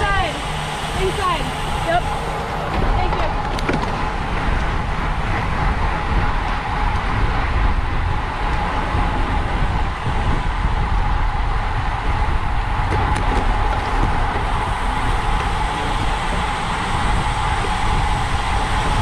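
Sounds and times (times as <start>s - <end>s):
deep rumble: 0.0s - 19.0s
wind buffeting microphone: 0.0s - 19.0s.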